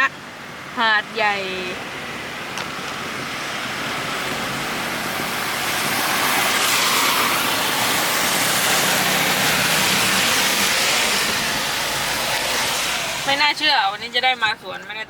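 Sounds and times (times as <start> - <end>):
tyres hissing on wet road: 0.1 - 15.0.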